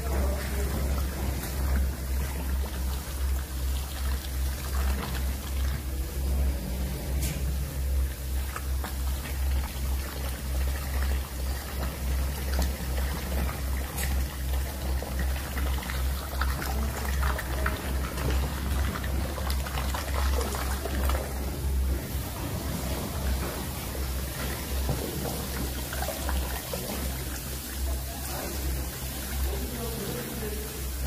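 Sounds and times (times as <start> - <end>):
low pulsing rumble: 0.0 - 31.0
wet mortar pouring and sloshing: 0.0 - 31.0.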